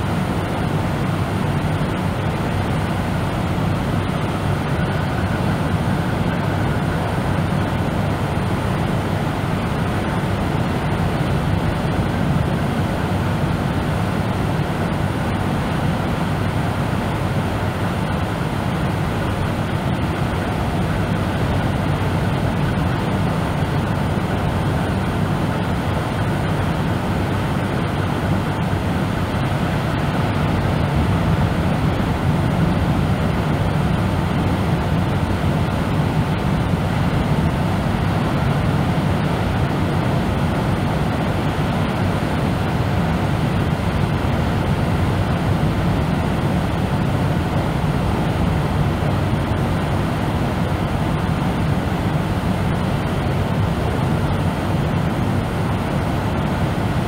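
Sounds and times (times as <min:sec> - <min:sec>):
deep brown noise rush: 0:00.0 - 0:57.0.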